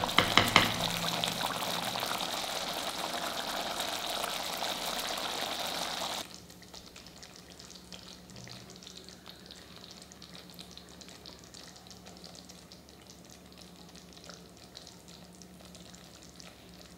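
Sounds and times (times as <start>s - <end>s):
gravy simmering and sizzling: 0.0s - 16.9s.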